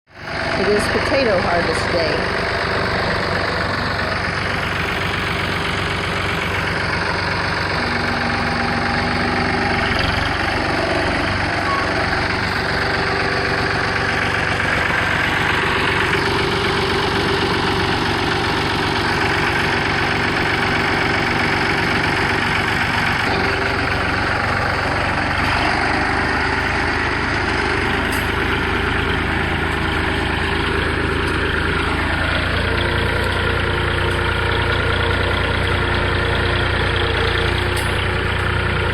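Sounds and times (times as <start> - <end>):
tractor engine under load: 0.1 - 38.9.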